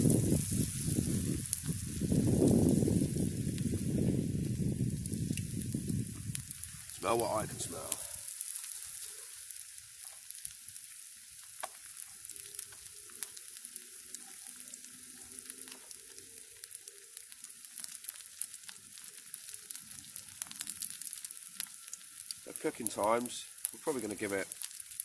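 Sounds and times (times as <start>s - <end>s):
fish frying in hot oil: 0.0s - 25.0s
oil crackling and popping: 0.0s - 25.0s.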